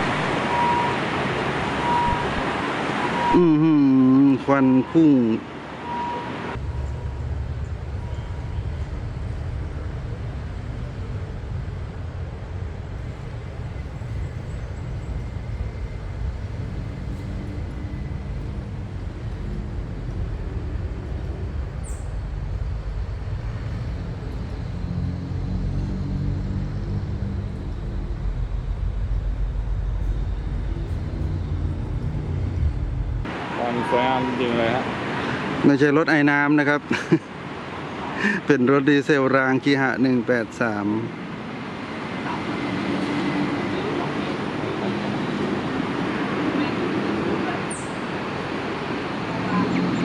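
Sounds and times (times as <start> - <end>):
diesel railcar engine drone: 0.0 - 3.6, 5.5 - 35.6, 40.2 - 50.0.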